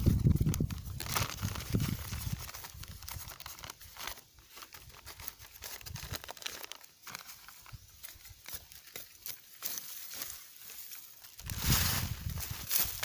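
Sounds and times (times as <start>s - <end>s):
plastic bag crinkling and tearing: 0.0s - 13.0s.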